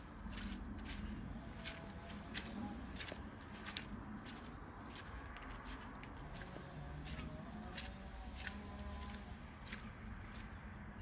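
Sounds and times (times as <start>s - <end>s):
footsteps crunching on path: 0.0s - 11.0s.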